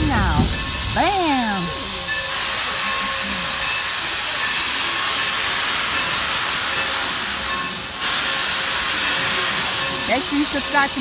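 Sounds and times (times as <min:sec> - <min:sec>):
steam train hissing: 0:00.0 - 0:11.0.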